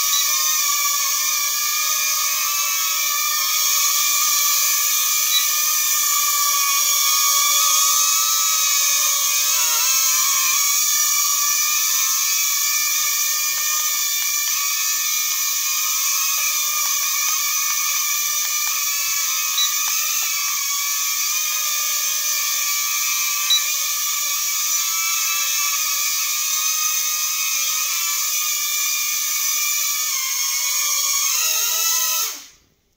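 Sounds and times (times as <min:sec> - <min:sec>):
toy airplane motor whining: 0:00.0 - 0:32.7.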